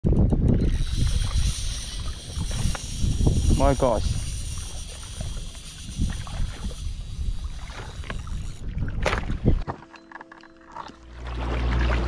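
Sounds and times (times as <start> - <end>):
wind rumbling on microphone: 0.0 - 9.7.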